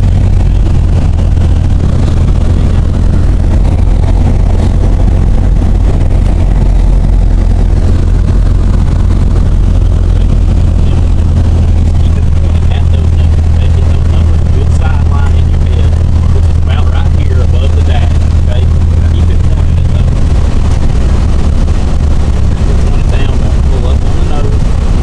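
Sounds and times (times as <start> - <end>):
propeller aircraft engine hum: 0.0 - 25.0.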